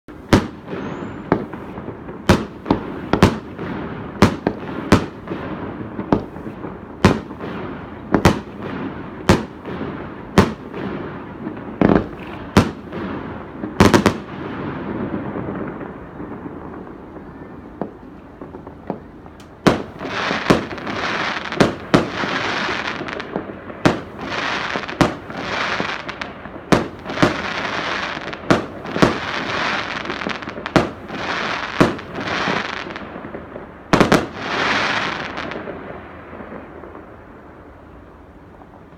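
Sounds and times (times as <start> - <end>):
fireworks bangs: 0.1 - 38.9.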